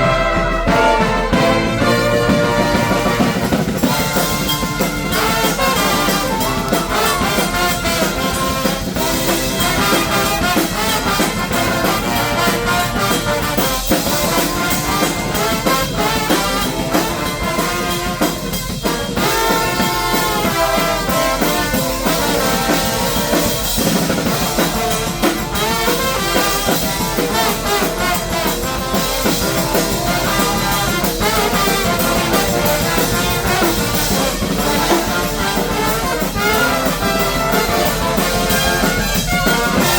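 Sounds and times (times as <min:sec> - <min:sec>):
drums keeping a beat: 0:00.0 - 0:39.9
trumpets and trombones: 0:00.0 - 0:39.9.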